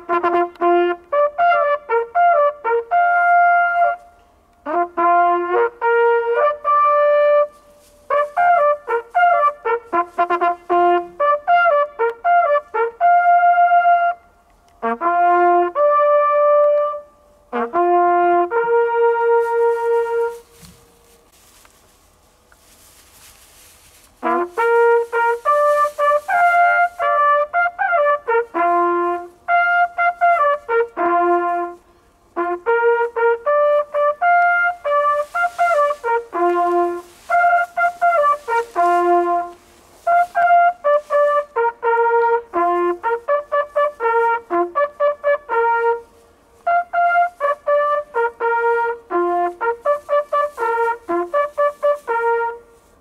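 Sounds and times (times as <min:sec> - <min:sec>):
hunting horns playing: 0:00.0 - 0:53.0.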